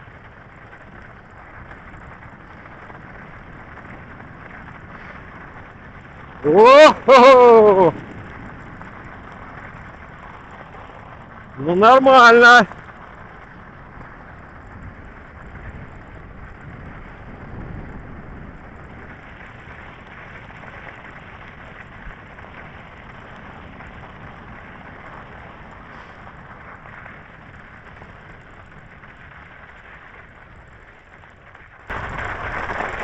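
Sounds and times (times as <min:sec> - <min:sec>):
bike tyres crunching on snow: 0:00.0 - 0:33.0.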